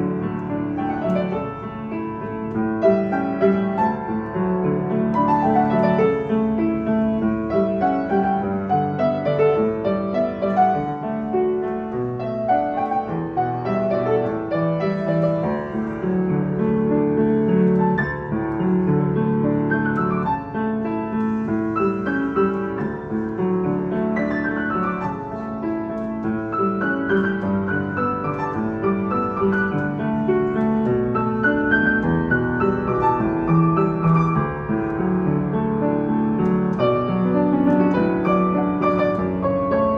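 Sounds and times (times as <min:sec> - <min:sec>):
upright piano playing: 0:00.0 - 0:39.9.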